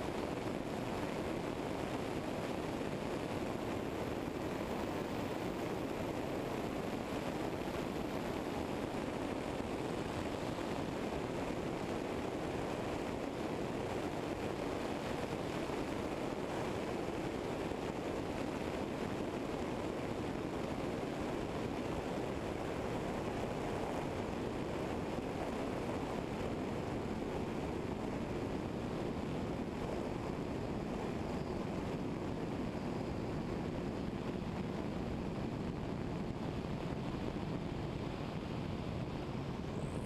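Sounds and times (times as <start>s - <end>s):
aircraft engine and propeller: 0.0s - 40.0s.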